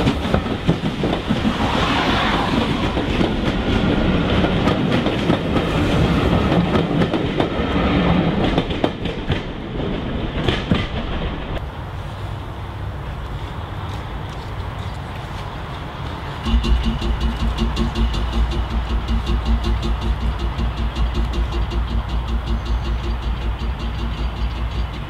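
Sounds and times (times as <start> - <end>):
train wheels clicking over rail joints: 0.0 - 11.6, 16.1 - 25.0.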